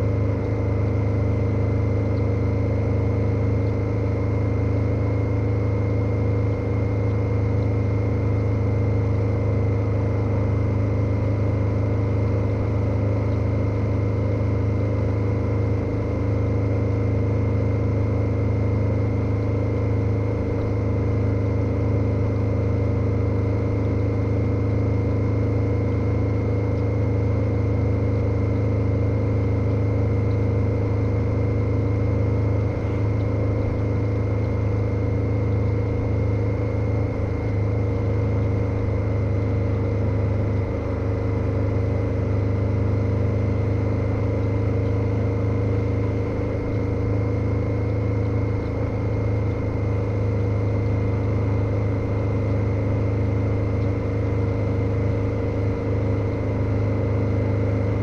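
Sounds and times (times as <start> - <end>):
motorcycle engine droning: 0.0 - 58.0
thin steady whine: 0.0 - 58.0.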